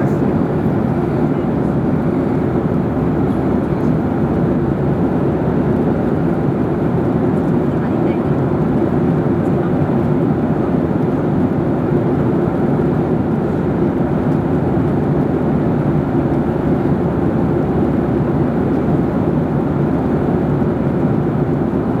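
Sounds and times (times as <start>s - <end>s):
jet cabin engine rumble: 0.0s - 22.0s.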